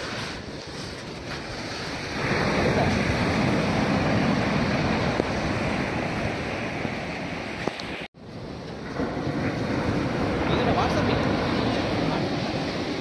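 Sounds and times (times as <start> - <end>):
sea surf breaking: 0.0 - 13.0.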